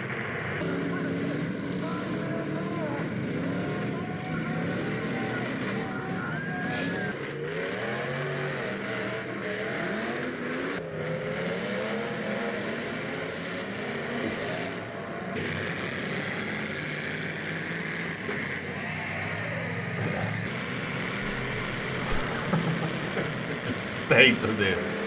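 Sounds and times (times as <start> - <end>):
car engines revving: 0.0 - 25.0
rumble of running engines: 0.0 - 25.0.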